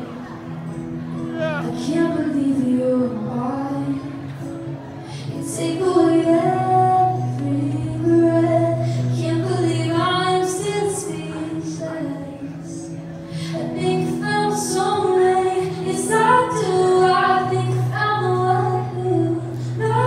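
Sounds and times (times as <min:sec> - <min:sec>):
acoustic guitar: 0:00.0 - 0:20.0
woman singing into microphone: 0:01.6 - 0:20.0.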